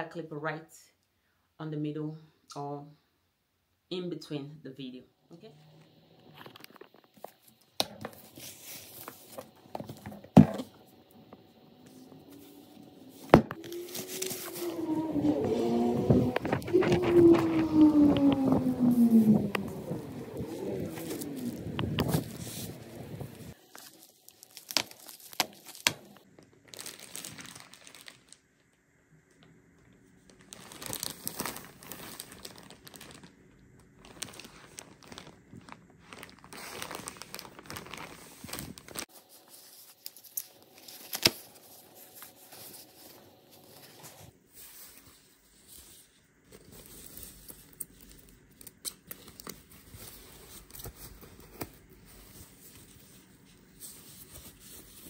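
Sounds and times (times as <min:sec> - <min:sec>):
bubble wrap and paper crinkling: 0:06.2 - 0:28.8, 0:29.9 - 0:55.0.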